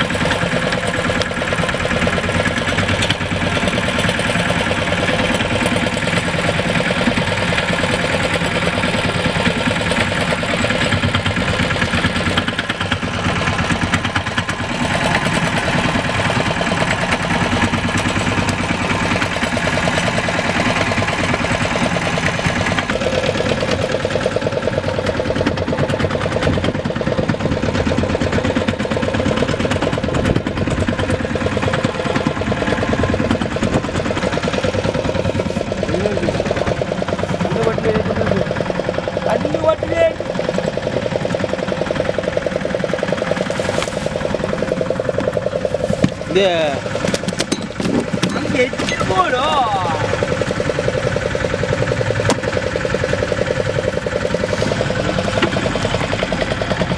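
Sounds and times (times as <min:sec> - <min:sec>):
boat engine drone: 0:00.0 - 0:56.9.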